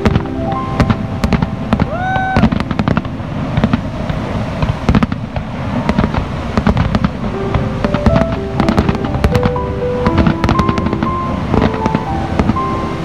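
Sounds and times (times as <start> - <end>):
fireworks cracking and popping: 0.0 - 12.7
low rumble: 0.0 - 13.0.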